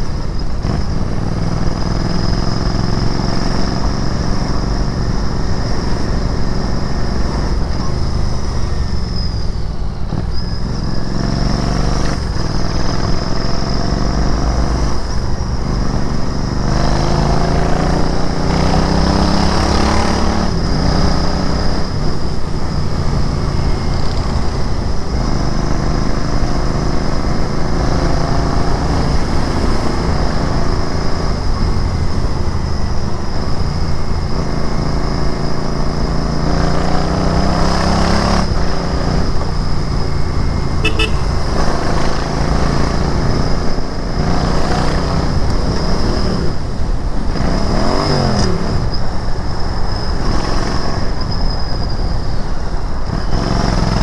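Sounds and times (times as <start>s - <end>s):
motorcycle engine accelerating: 0.0s - 51.4s.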